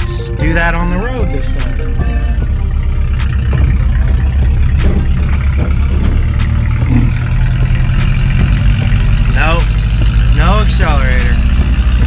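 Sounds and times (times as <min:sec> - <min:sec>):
engine deep rumble: 0:00.0 - 0:12.0.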